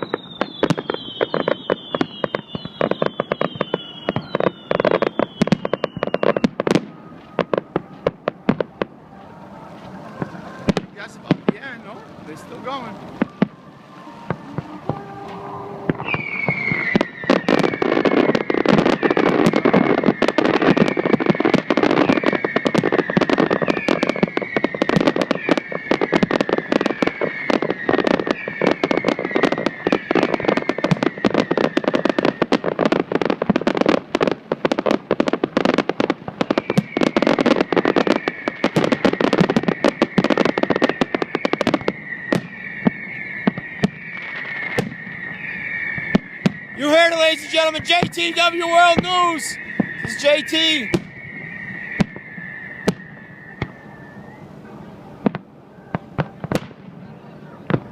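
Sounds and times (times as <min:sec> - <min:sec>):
fireworks whistle falling in pitch: 0:00.0 - 0:34.0, 0:35.6 - 0:56.8
fireworks bangs and crackles: 0:00.0 - 0:57.9.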